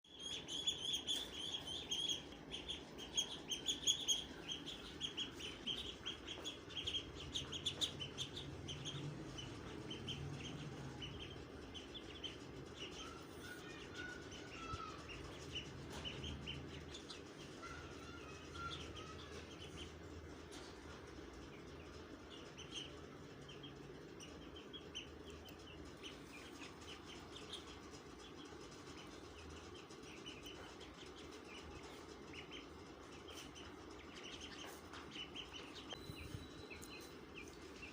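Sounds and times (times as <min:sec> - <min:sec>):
steady low hum: 0:00.0 - 0:37.9
chicks peeping: 0:00.1 - 0:37.9.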